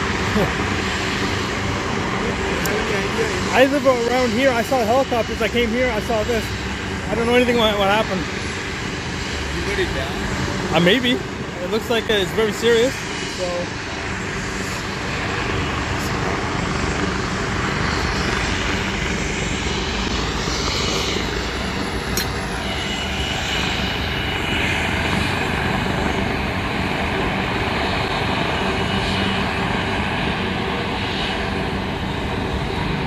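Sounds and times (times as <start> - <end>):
helicopter turbine engines running: 0.0 - 33.0
highway traffic: 0.0 - 33.0.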